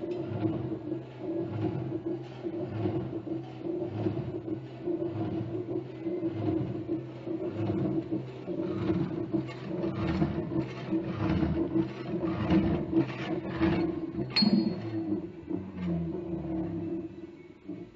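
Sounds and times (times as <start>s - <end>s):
saw motor hum: 0.0s - 17.9s.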